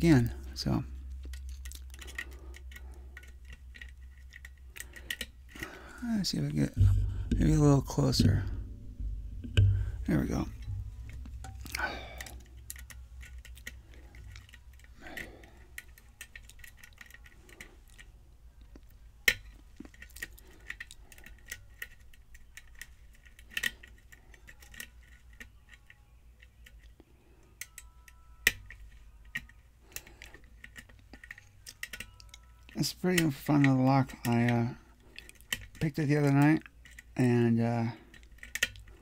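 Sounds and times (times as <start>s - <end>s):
low steady hum: 0.0s - 39.0s
lock pick clicking and scraping: 0.7s - 37.2s, 37.9s - 39.0s.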